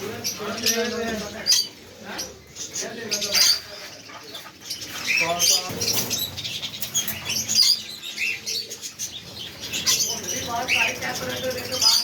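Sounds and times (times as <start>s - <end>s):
lovebirds chirping: 0.0s - 12.0s.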